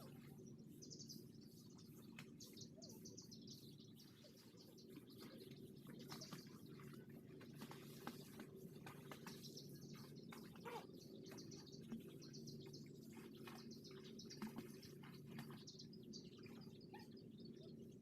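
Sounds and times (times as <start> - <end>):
faint bird chirps: 0.0 - 18.0
low steady hum: 0.0 - 18.0.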